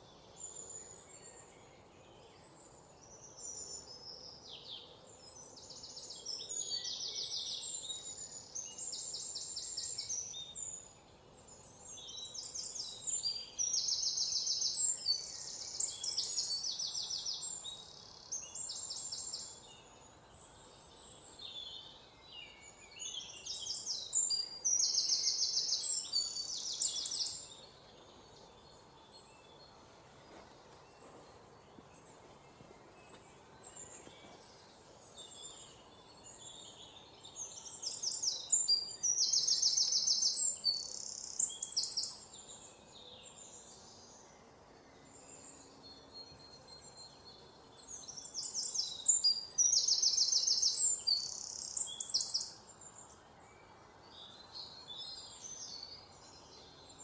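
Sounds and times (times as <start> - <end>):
bird chirps: 0.0 - 57.0
faint background hiss: 0.0 - 57.0.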